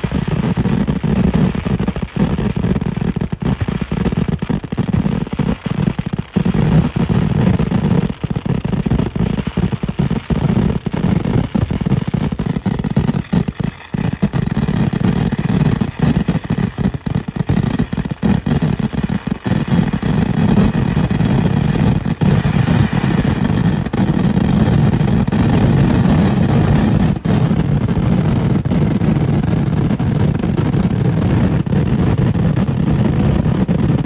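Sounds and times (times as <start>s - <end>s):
fireworks explosions: 0.0s - 34.0s.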